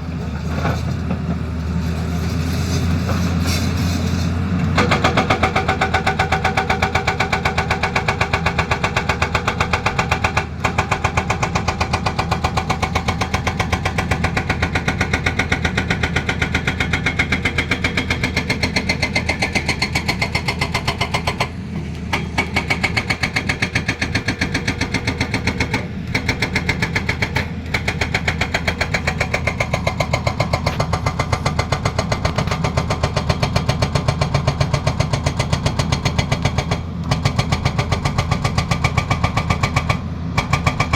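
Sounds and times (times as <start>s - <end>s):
diesel engine running: 0.0s - 40.9s
hydraulic breaker hammering: 4.8s - 40.9s.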